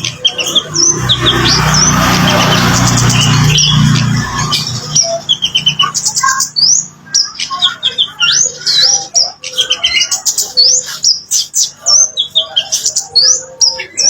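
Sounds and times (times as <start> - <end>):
bird singing chirps and whistles: 0.0 - 14.0.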